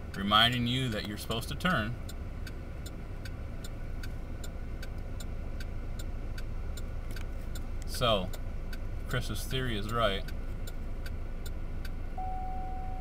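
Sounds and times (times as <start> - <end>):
low steady hum: 0.0 - 13.0
turn signal clicking: 0.0 - 13.0.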